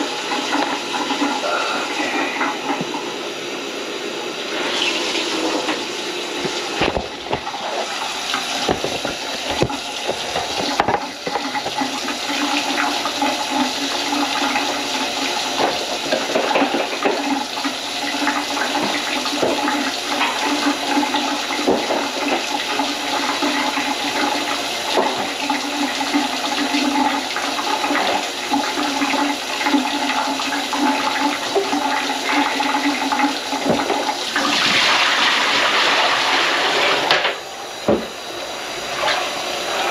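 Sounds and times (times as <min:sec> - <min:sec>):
water rushing and gurgling in sink: 0:00.0 - 0:39.9.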